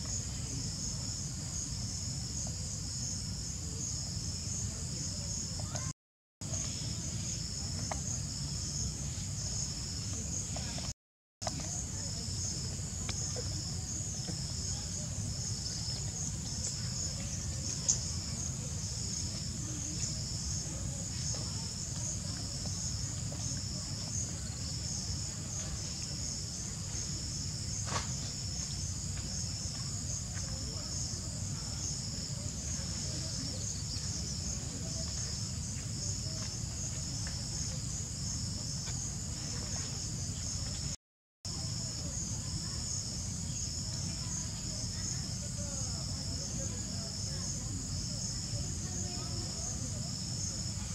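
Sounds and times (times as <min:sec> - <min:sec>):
insects chirring: 0:00.0 - 0:50.9.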